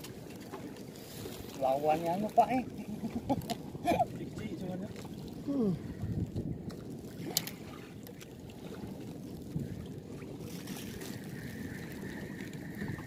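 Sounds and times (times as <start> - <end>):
boat engine rumble: 0.0 - 13.0.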